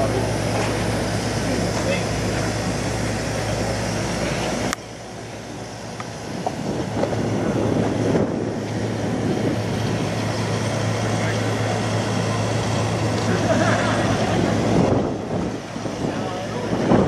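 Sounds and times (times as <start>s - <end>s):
diesel truck engine idling: 0.0s - 17.0s
outdoor crowd noise: 0.0s - 17.0s.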